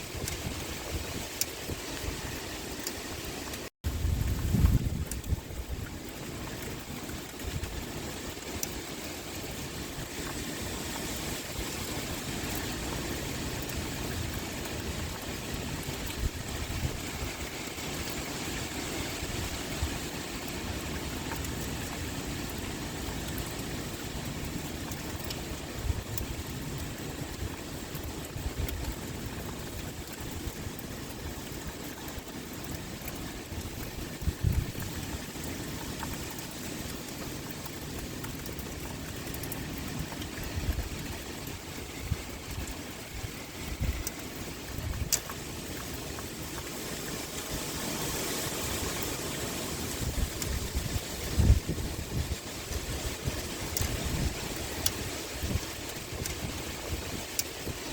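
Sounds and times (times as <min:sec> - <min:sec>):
pouring rain: 0:00.0 - 0:57.9.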